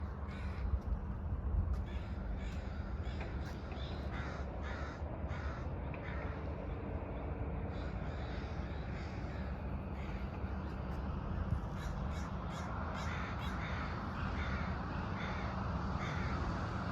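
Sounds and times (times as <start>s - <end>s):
steady low rumble: 0.0s - 16.9s
flock of birds calling: 0.2s - 0.7s, 1.8s - 6.4s, 7.7s - 11.0s, 11.7s - 16.9s.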